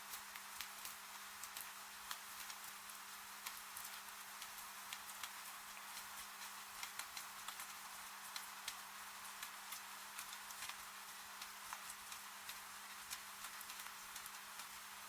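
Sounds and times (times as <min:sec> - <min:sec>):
raindrops ticking and tapping: 0:00.0 - 0:15.0
soft rain hiss: 0:00.0 - 0:15.0.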